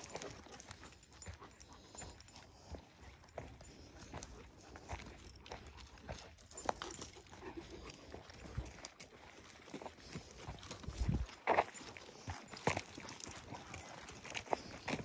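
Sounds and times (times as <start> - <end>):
footsteps on dirt trail: 0.0 - 15.0.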